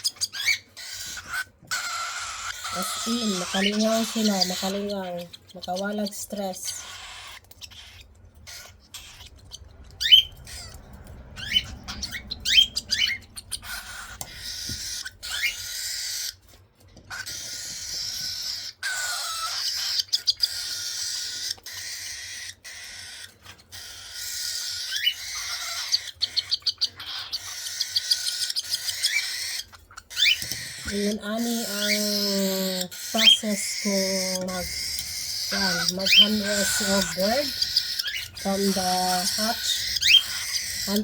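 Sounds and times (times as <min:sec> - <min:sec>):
baby birds chirping: 0:00.0 - 0:41.0.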